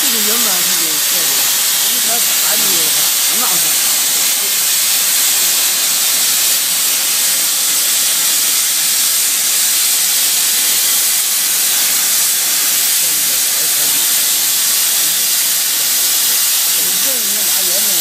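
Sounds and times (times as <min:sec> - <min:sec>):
cutting torch hissing: 0:00.0 - 0:18.0.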